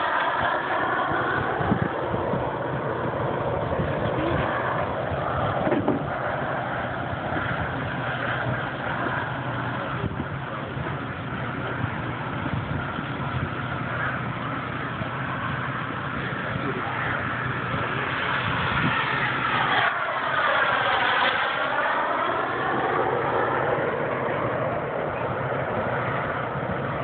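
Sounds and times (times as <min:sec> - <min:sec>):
model jet turbine roar: 0:00.0 - 0:27.0.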